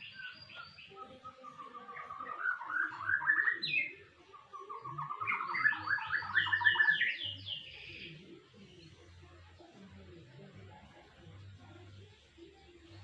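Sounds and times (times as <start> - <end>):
canary singing in fast trills: 0.0 - 13.0.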